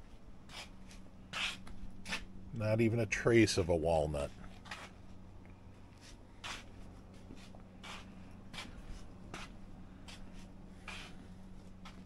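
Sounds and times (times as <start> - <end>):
faint shuffling steps: 0.0 - 12.0
steady low hum: 0.0 - 12.0.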